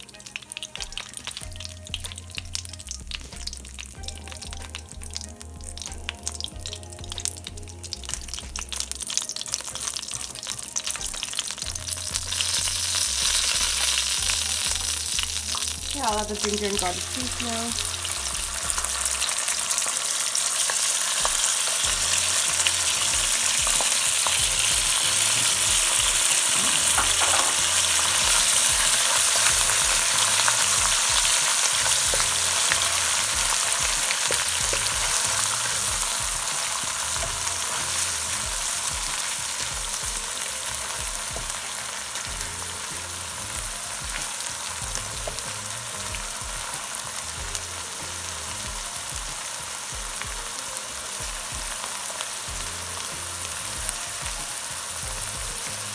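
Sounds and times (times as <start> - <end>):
paste sizzling in hot oil: 0.0 - 55.9.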